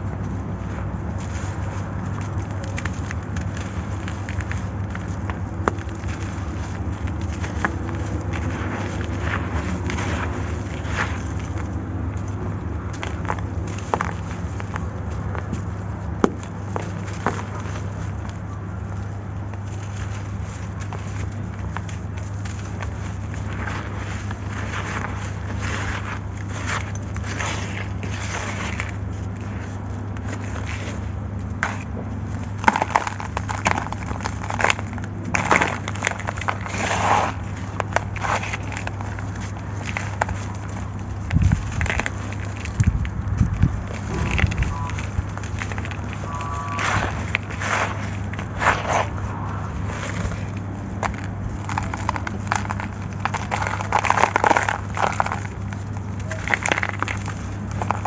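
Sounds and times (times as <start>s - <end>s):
low hum: 0.0s - 58.0s
sand-cement chunks crunching: 0.0s - 58.0s.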